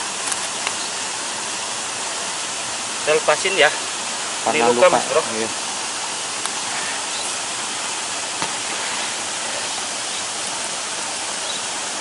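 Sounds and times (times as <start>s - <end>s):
water rushing over waterfall: 0.0s - 12.0s.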